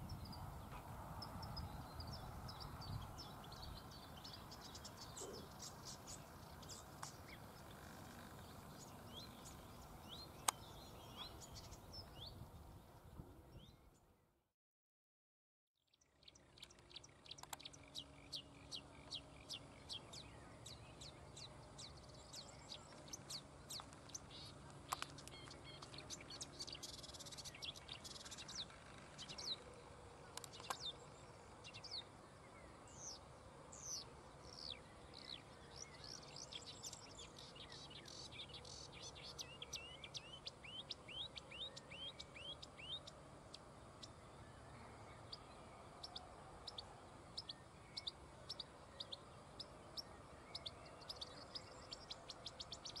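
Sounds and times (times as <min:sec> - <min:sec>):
warbler singing: 0:00.0 - 0:14.0, 0:15.9 - 0:53.0.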